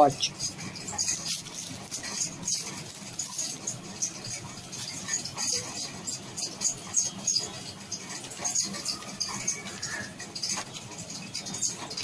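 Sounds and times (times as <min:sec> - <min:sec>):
packaging rattling and rustling: 0:00.2 - 0:12.0.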